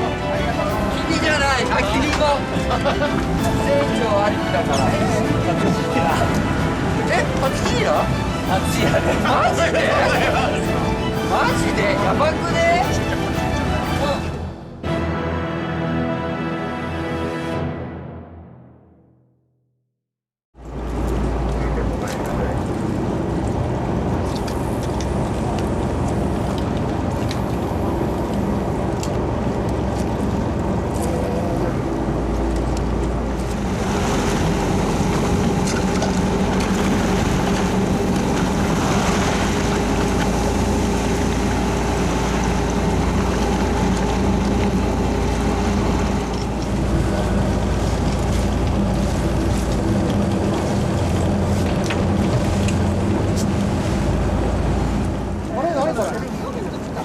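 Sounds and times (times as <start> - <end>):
boat engine running: 0.0 - 14.9, 20.6 - 57.0
heavy low rumble: 0.0 - 15.1, 20.6 - 57.0
water noise: 0.0 - 16.9, 20.6 - 57.0
wind: 0.0 - 17.5, 20.6 - 57.0.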